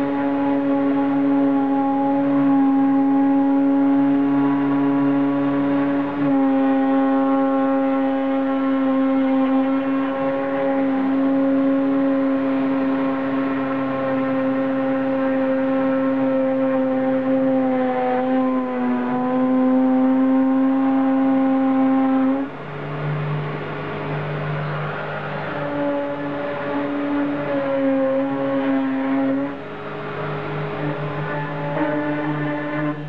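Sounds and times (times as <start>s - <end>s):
low machine hum: 0.0s - 33.0s
machine motors whining: 0.0s - 33.0s.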